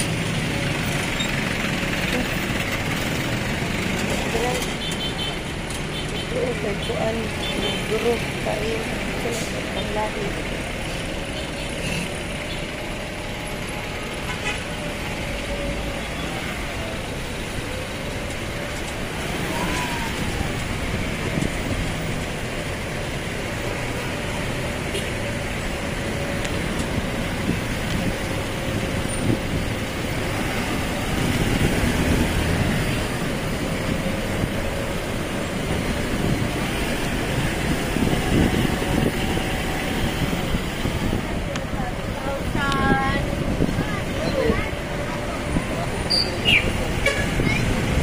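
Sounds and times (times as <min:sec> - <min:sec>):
rumble of passing traffic: 0:00.0 - 0:48.0.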